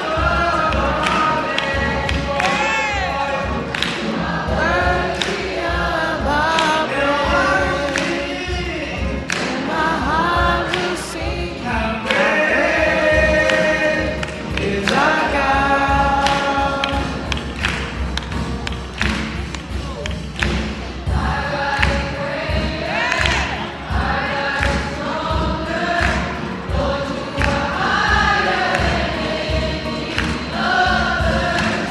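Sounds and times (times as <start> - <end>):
choir singing: 0.0 - 31.9.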